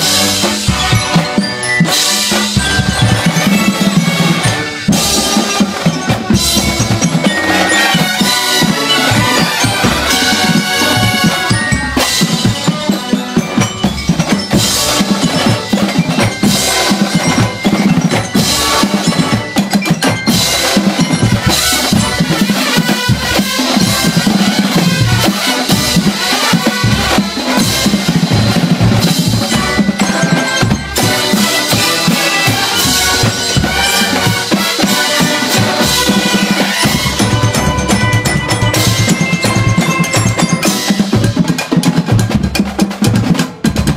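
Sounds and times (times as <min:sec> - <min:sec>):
marimba and glockenspiel: 0:00.0 - 0:43.9
snare and bass drums: 0:00.0 - 0:43.9.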